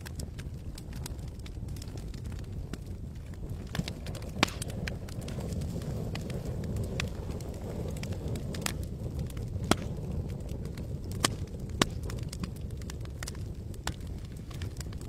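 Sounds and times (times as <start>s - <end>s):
campfire crackling and popping: 0.0s - 15.0s
fire low rumble: 0.0s - 15.0s.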